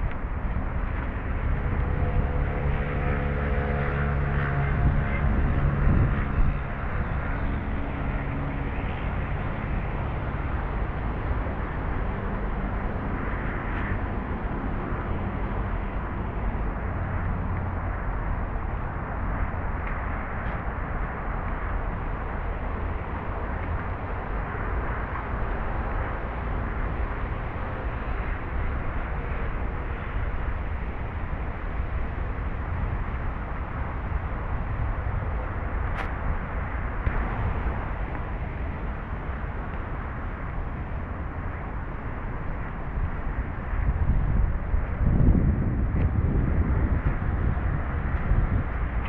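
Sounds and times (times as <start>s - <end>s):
low rumble like distant traffic: 0.0s - 49.0s.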